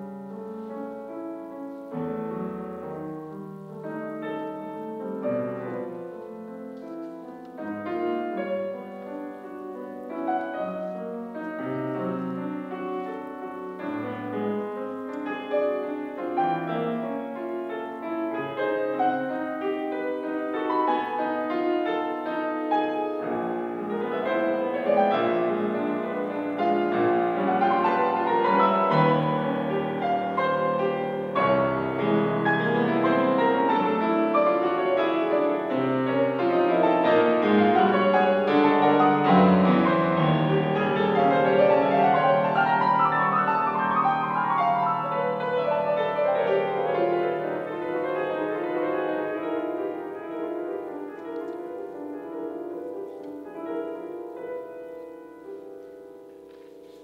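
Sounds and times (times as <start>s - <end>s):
fast classical piano passage: 0.0s - 57.0s.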